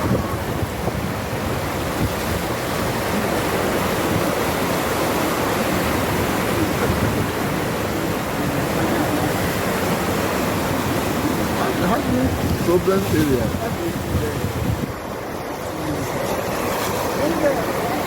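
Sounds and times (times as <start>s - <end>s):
fast-flowing water rushing: 0.0s - 18.0s.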